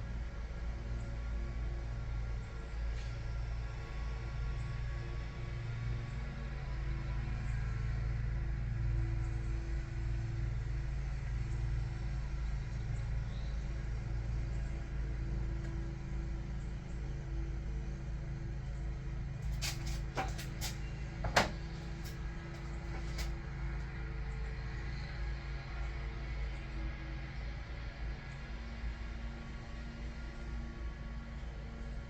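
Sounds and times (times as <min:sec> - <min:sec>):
low workshop hum: 0:00.1 - 0:32.0.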